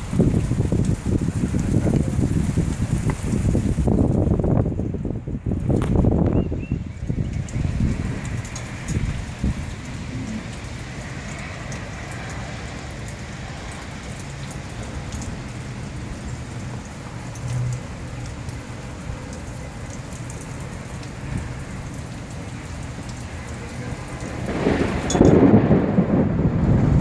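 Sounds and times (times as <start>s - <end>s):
rain pattering on a surface: 0.0s - 27.0s
storm rumble: 0.0s - 27.0s.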